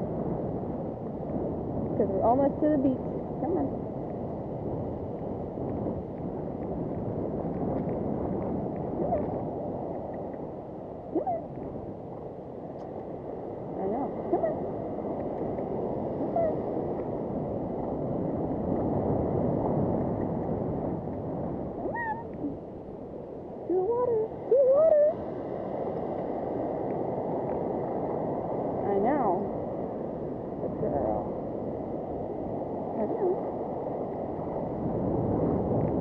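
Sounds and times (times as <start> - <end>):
ocean surf breaking: 0.0 - 36.0
wind buffeting microphone: 0.0 - 36.0.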